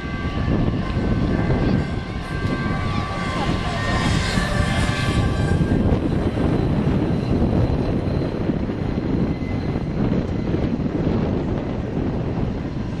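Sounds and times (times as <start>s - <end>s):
jet engine roaring: 0.0s - 13.0s
wind buffeting microphone: 0.0s - 13.0s.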